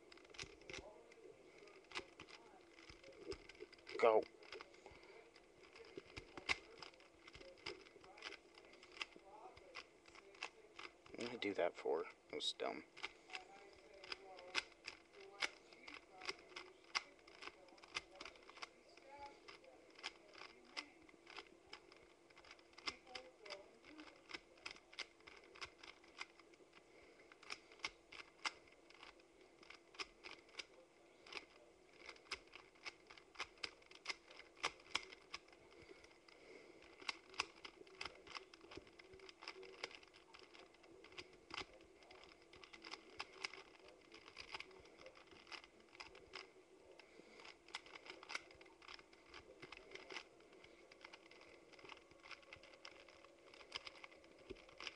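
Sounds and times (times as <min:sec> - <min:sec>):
plastic puzzle cube clicking: 0:00.1 - 0:11.4, 0:12.9 - 0:54.9.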